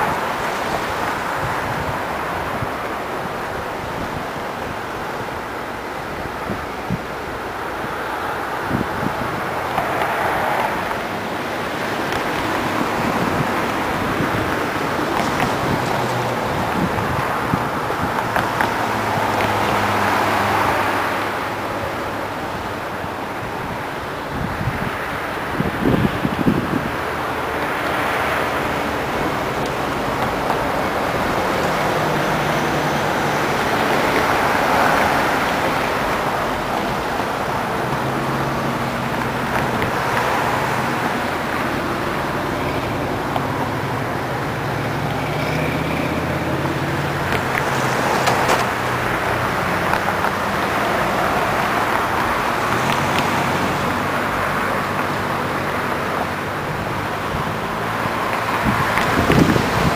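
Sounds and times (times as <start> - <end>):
car engines and tyres passing: 0.0 - 59.9
steady background noise: 0.0 - 59.9.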